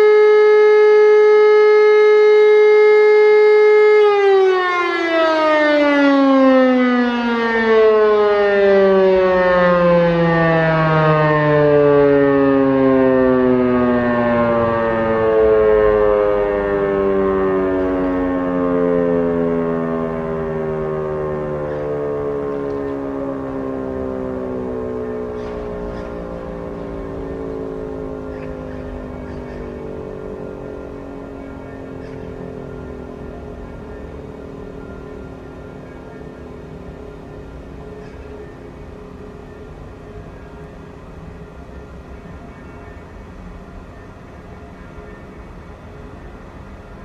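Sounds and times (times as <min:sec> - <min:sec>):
siren steady tone winding down: 0:00.0 - 0:47.0.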